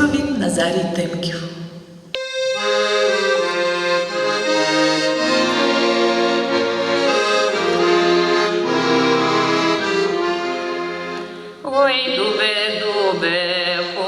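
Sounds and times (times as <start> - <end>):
accordion playing: 2.1 - 14.0.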